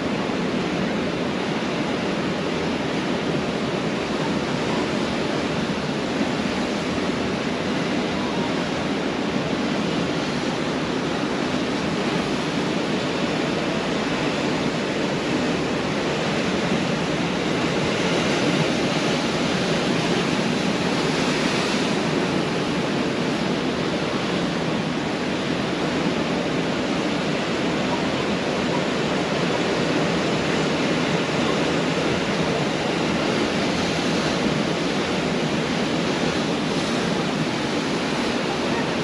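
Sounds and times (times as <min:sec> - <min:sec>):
surf breaking on beach: 0:00.0 - 0:39.0.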